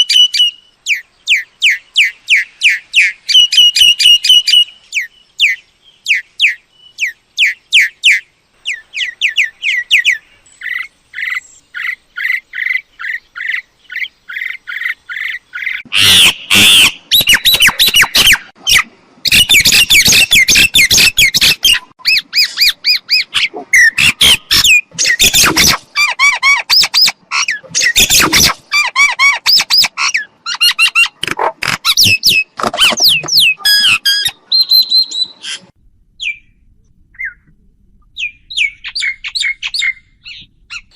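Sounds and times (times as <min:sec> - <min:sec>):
bird squawking and chattering: 0:01.3 - 0:36.4.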